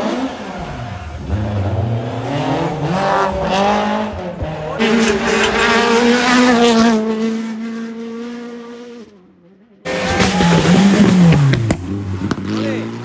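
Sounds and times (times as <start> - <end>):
rally car engine at high revs: 0.0 - 13.0
rally car engine slowing: 0.0 - 13.0.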